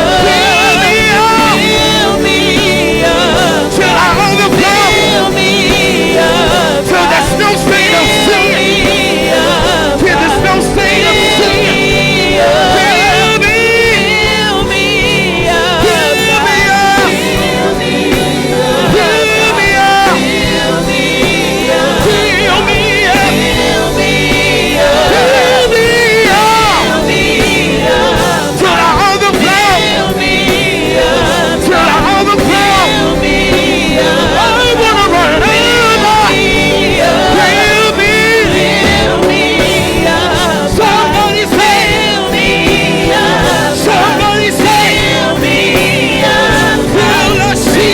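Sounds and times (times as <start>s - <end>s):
band accompaniment: 0.0s - 47.9s
voices singing gospel: 0.0s - 47.9s.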